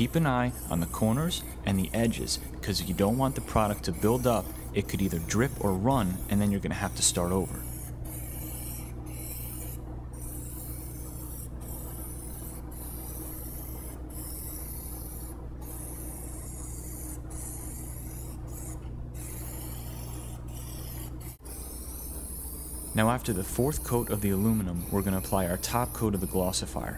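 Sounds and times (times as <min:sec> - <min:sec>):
low hum: 0:00.0 - 0:26.9.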